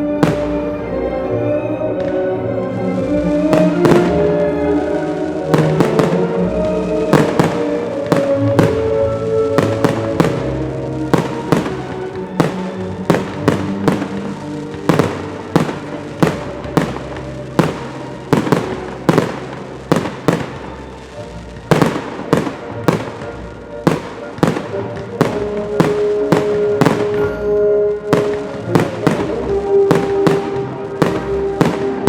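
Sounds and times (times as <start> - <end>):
fireworks bursting: 0.0 - 0.9, 1.9 - 32.0
music playing: 0.0 - 32.0.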